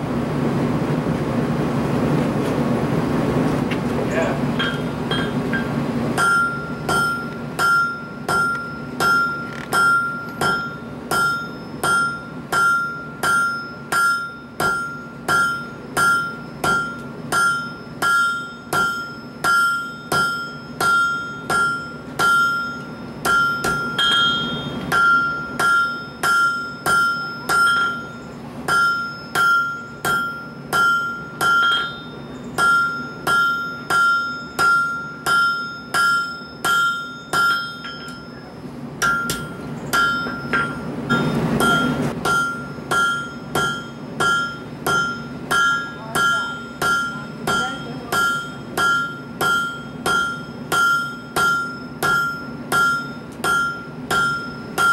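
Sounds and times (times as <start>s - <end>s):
hammer striking steel on anvil: 4.6s - 54.9s.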